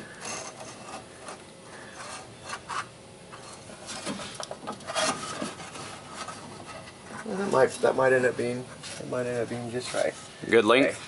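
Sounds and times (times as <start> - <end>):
fuel line scraping metal underbody: 0.0 - 11.0.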